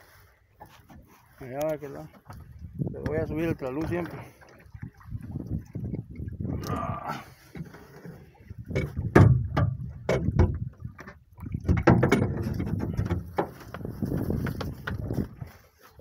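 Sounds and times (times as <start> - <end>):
water sloshing against boat hull: 0.0 - 16.0
knocks and thumps on boat: 1.9 - 6.6, 7.4 - 15.7.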